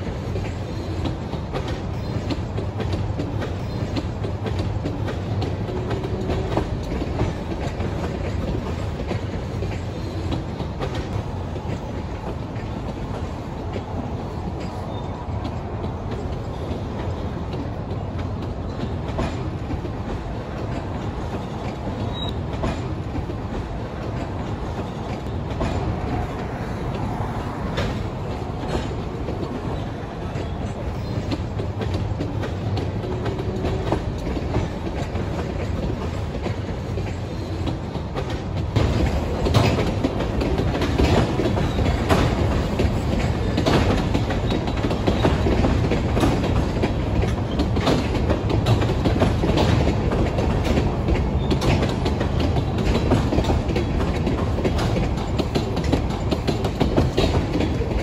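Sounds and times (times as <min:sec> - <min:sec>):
freight train rumbling past: 0:00.0 - 0:58.0
wheels clicking over rail joints: 0:00.0 - 0:58.0.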